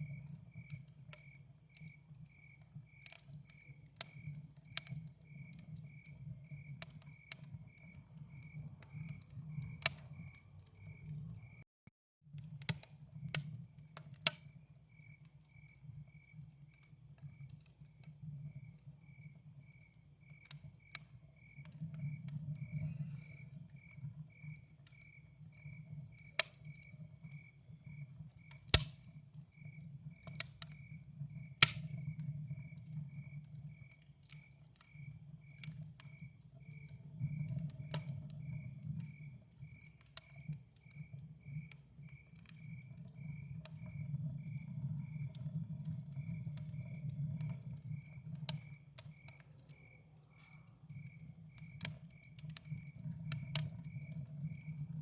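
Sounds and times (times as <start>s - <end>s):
campfire crackling and popping: 0.0s - 11.6s, 12.3s - 55.0s
cricket chirping: 0.0s - 11.6s, 14.3s - 55.0s.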